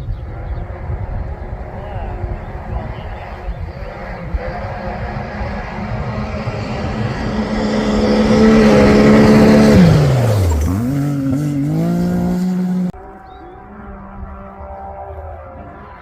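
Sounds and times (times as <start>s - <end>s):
racing engine revving: 0.0s - 16.0s.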